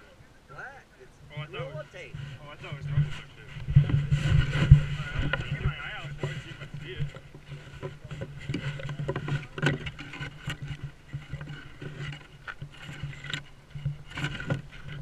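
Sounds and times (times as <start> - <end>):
camera rubbing against clothing: 1.1 - 15.0
footsteps: 1.1 - 15.0.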